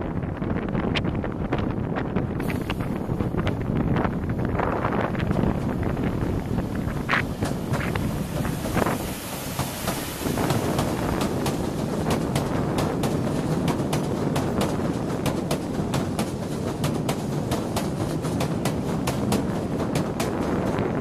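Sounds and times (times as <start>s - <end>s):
diesel train rumble: 0.0s - 21.0s
wheels clicking over rail joints: 0.4s - 21.0s.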